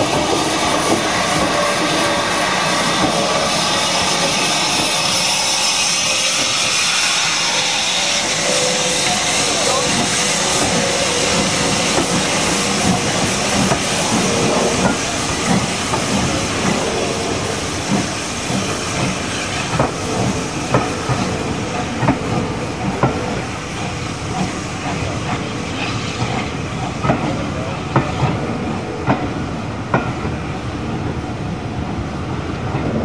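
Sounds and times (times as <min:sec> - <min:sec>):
steam locomotive hissing: 0:00.0 - 0:31.5.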